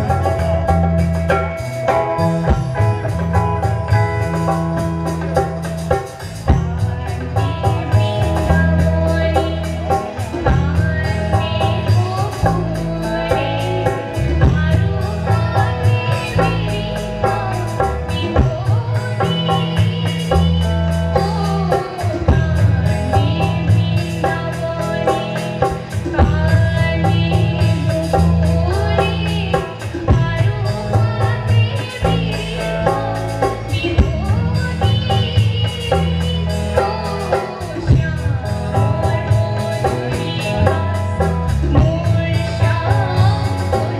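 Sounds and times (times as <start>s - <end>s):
live band music: 0.0s - 43.9s
woman singing: 0.0s - 43.9s.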